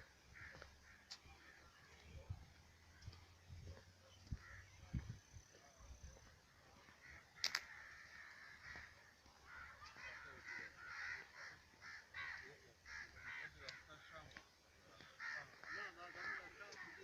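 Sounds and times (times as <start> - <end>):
crows cawing: 0.1 - 2.0, 4.1 - 5.3, 6.5 - 17.0.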